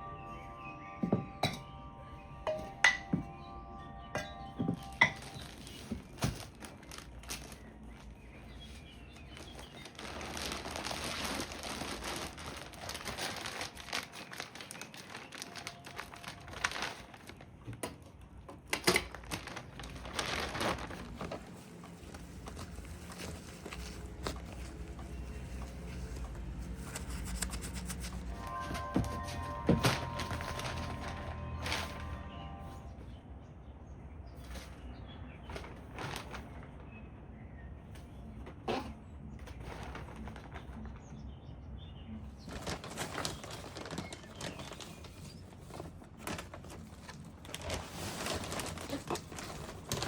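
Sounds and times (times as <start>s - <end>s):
rustling and crinkling handling noises: 0.0s - 33.2s, 34.3s - 41.4s, 42.2s - 50.0s.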